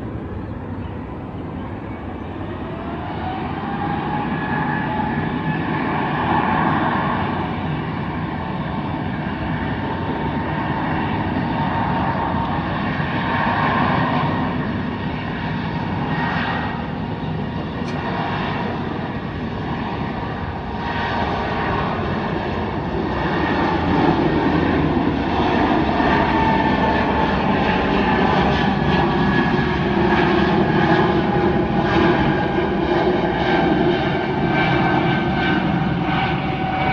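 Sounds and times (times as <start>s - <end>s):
jet engines running: 0.0s - 36.9s.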